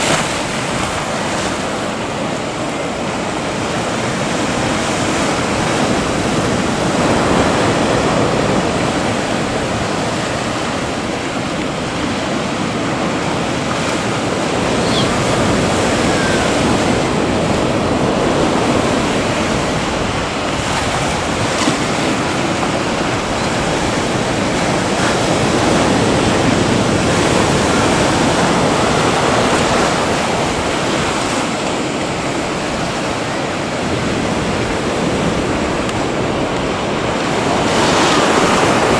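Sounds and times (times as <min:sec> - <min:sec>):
ocean surf rushing: 0:00.0 - 0:38.9
wind: 0:00.0 - 0:38.9.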